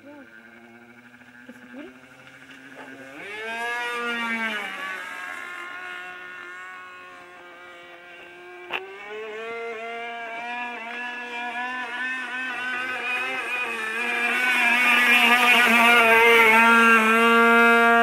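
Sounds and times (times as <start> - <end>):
model plane engine at high revs: 0.0 - 18.0.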